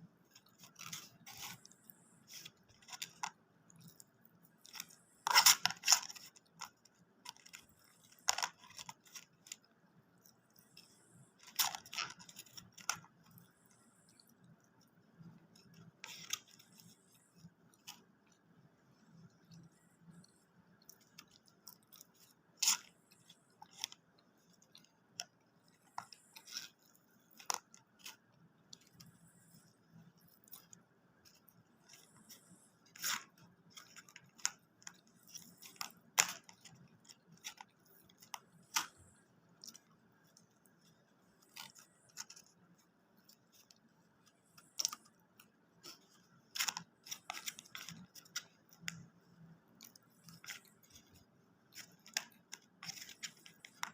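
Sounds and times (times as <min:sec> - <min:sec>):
person chewing food: 0:00.2 - 0:53.9.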